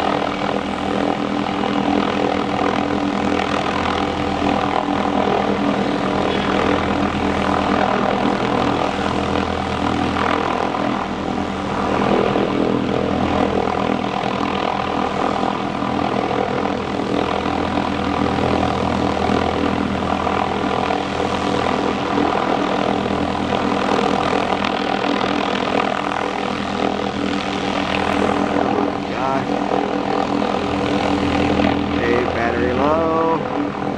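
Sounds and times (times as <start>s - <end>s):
helicopter rotor drone: 0.0s - 33.9s.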